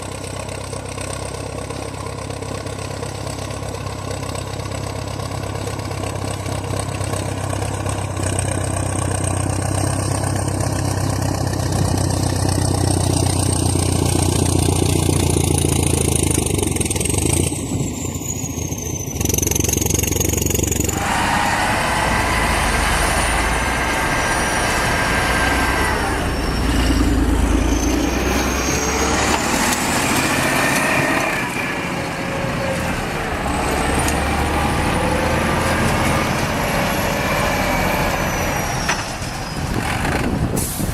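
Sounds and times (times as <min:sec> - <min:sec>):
heavy diesel engines under load: 0:00.0 - 0:40.9.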